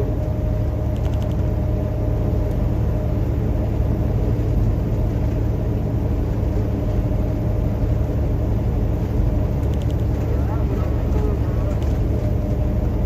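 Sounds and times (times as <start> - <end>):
road noise: 0.0 - 13.0
truck engine droning under load: 0.0 - 13.0.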